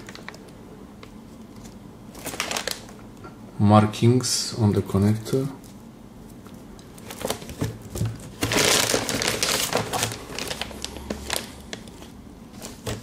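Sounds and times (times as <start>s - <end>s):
crinkling: 0.0s - 3.0s, 5.6s - 13.0s.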